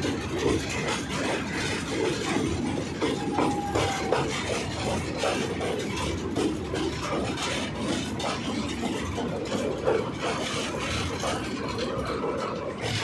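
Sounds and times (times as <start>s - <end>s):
clacks from rail joints: 0.0s - 13.0s
train wheels rumbling on rails: 0.0s - 13.0s.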